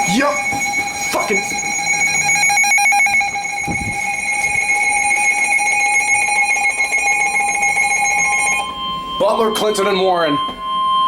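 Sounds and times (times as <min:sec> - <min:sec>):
electronic alarm tone: 0:00.0 - 0:11.0.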